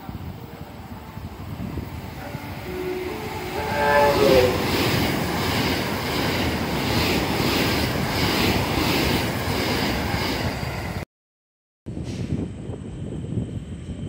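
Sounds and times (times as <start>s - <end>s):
electric train passing at speed: 0.0s - 11.0s, 12.2s - 14.0s.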